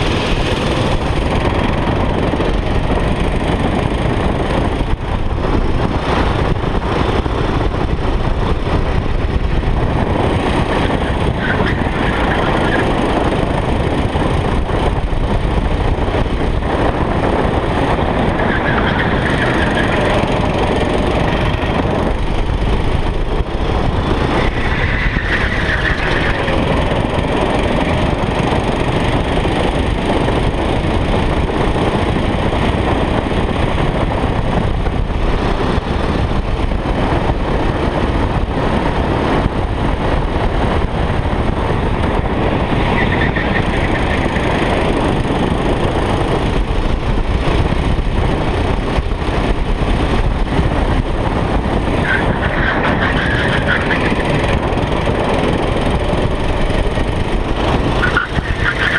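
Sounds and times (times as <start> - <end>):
go-kart engine running: 0.0 - 58.9
wind rush on microphone: 0.0 - 58.9.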